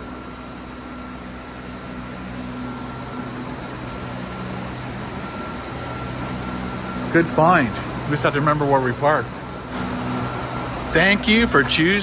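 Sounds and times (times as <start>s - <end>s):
mechanical hum and drone: 0.0s - 12.0s.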